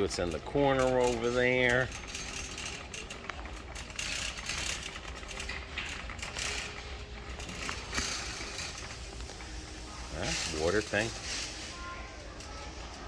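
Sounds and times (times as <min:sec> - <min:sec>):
busy store background noise: 0:00.0 - 0:13.0
light clicks and rattles: 0:00.2 - 0:13.0.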